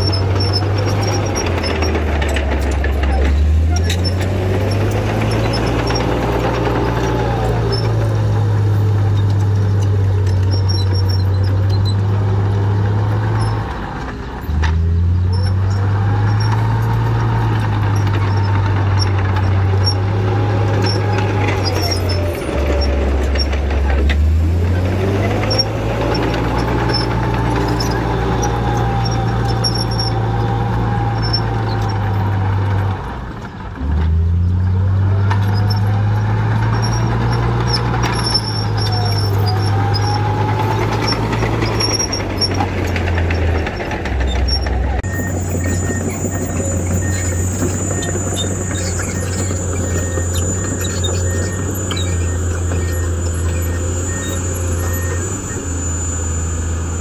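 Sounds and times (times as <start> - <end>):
bulldozer diesel engine: 0.0 - 57.0
engine whine: 0.0 - 57.0.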